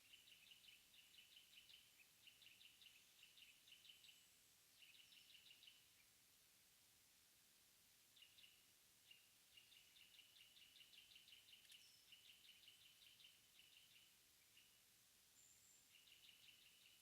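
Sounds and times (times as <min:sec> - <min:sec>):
bird chirping: 0:00.0 - 0:06.1, 0:08.2 - 0:17.0.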